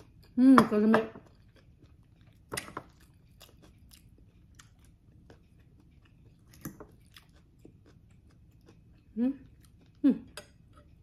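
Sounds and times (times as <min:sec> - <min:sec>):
quiet chewing of food: 0:01.2 - 0:11.0.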